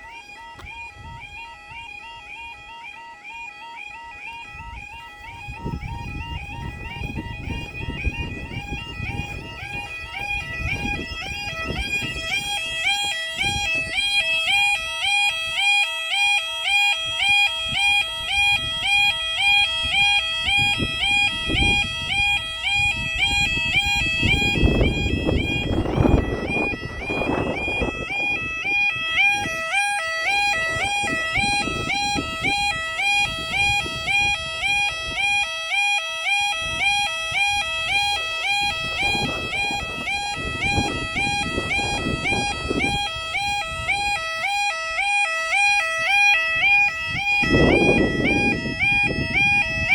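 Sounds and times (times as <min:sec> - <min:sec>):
crossing alarm two-tone wail: 0:00.0 - 0:49.9.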